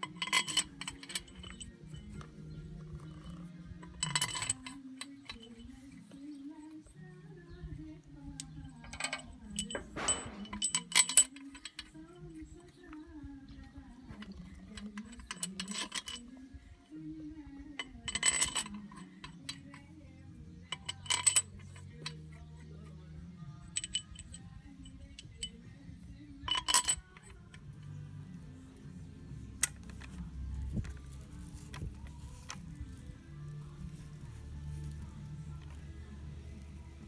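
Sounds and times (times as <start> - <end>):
metal tools clinking: 0.0 - 6.8, 8.3 - 16.7, 17.6 - 20.0, 20.6 - 23.0, 23.6 - 25.7, 26.4 - 37.0.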